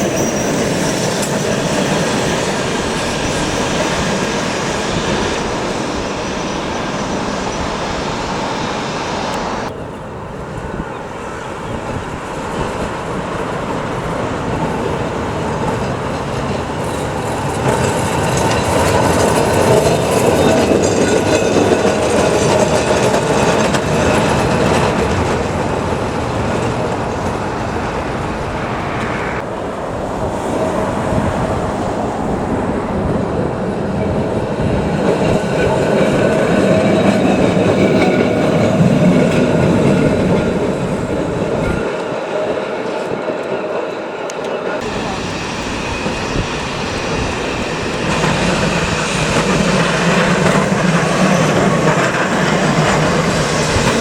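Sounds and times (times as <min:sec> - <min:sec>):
tram wheels clattering on rails: 0:00.0 - 0:54.0.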